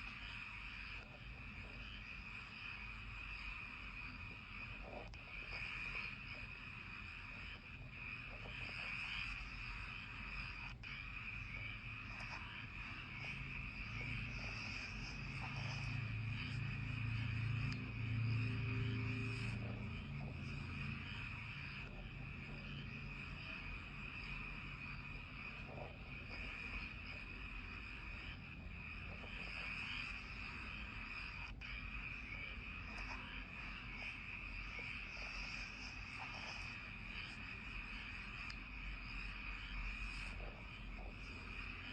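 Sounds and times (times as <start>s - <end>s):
insects and frogs chirring: 0.0s - 41.9s.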